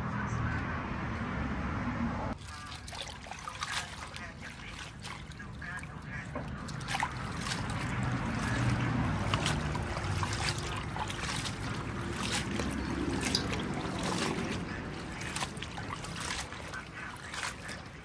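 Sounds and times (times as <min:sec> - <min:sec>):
water sloshing and splashing: 0:02.3 - 0:18.0
small splashes and drips: 0:02.4 - 0:18.0.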